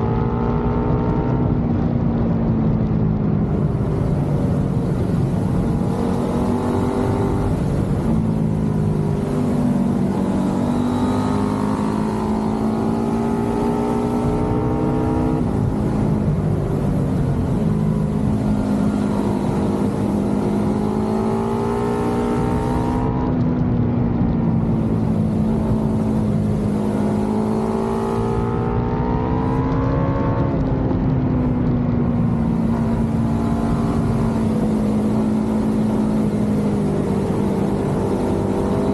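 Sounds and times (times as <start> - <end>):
motorcycle engine revving: 3.5 - 38.9.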